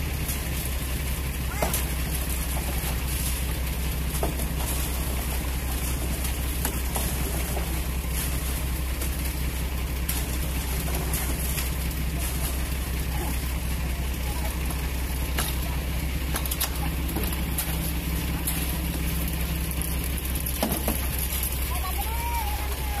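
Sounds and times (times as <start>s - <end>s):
diesel engine humming: 0.0s - 23.0s
shovels scraping wet concrete: 0.0s - 23.0s.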